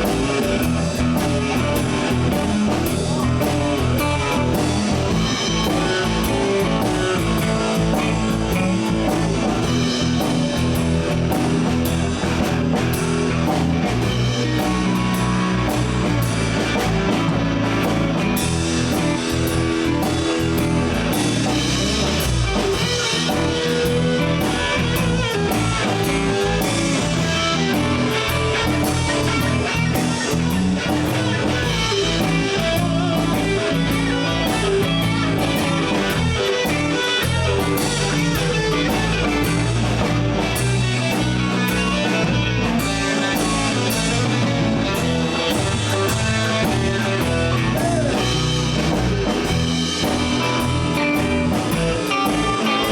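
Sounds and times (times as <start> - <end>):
bass: 0.0 - 52.9
drum kit: 0.0 - 52.9
electric guitars: 0.0 - 52.9.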